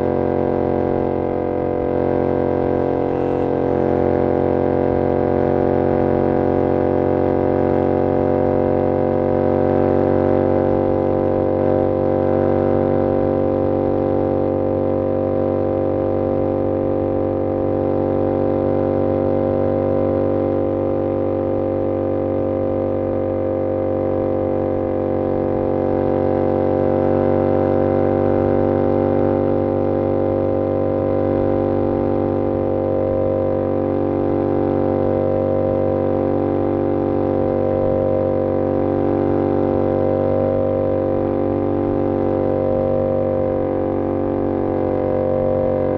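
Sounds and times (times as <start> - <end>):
motorcycle engine cruising: 0.0 - 19.0, 20.0 - 45.9.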